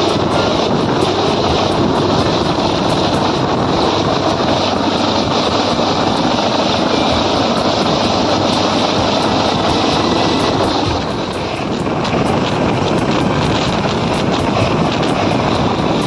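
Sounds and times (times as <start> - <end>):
helicopter rotor and turbine: 0.0 - 16.0.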